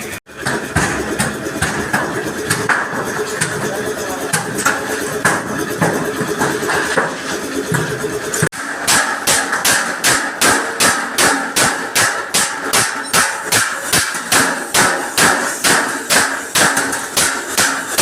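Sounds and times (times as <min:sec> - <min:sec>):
hammer striking metal bumper: 0:00.3 - 0:18.0.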